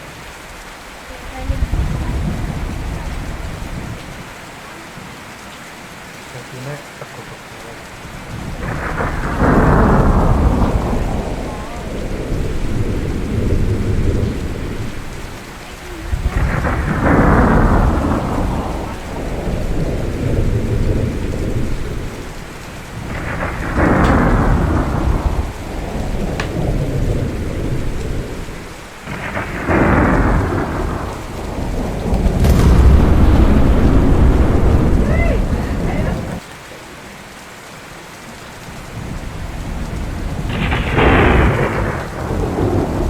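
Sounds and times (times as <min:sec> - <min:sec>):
rain falling: 0:00.0 - 0:43.0
thunder rumbling: 0:01.0 - 0:04.3, 0:07.9 - 0:36.4, 0:38.9 - 0:43.0.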